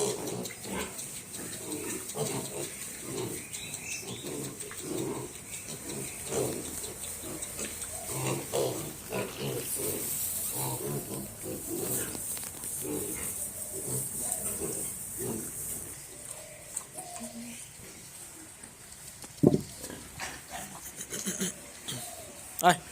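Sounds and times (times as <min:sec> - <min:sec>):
pigs grunting: 0:00.0 - 0:17.9, 0:19.6 - 0:22.5.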